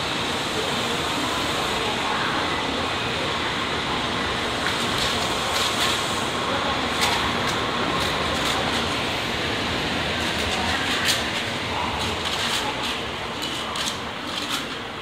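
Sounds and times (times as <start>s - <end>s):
train rolling and slowing: 0.0s - 15.0s.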